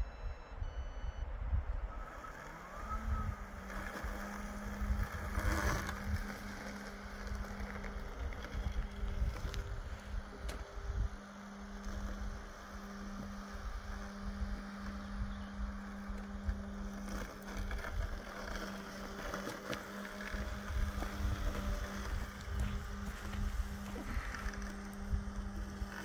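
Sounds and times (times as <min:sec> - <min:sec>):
robotic lawn mower humming: 0:00.0 - 0:26.0.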